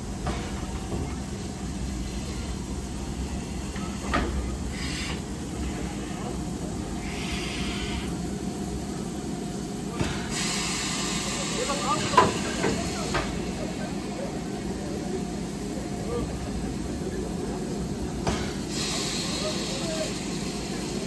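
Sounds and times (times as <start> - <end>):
steam hissing: 0.2 - 21.0.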